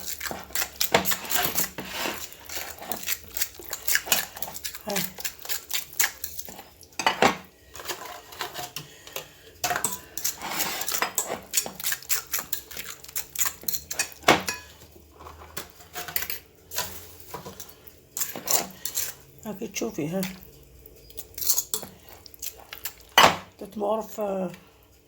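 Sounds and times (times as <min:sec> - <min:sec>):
spoon scraping mixing bowl: 0:00.0 - 0:19.4, 0:20.0 - 0:23.2.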